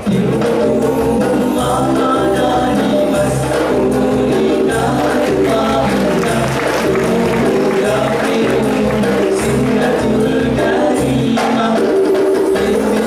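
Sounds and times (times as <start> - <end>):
boys singing together: 0.0 - 13.0
hand drum percussion: 0.0 - 13.0.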